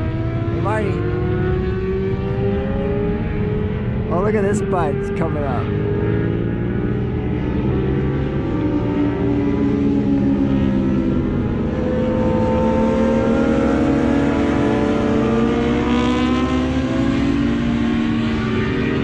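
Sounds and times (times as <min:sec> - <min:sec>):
motorcycles racing: 0:00.0 - 0:19.0.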